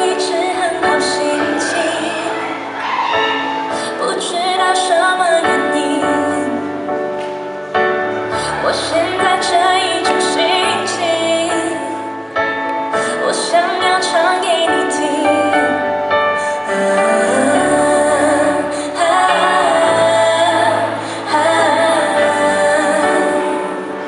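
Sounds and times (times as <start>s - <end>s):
woman singing pop song: 0.0s - 7.7s, 8.3s - 24.0s
backing track: 0.0s - 24.0s.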